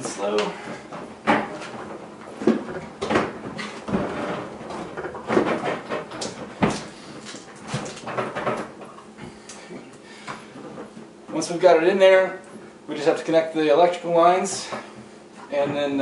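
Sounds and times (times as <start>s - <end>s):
sharp knocks and bumps: 0.0s - 11.4s, 14.3s - 16.0s.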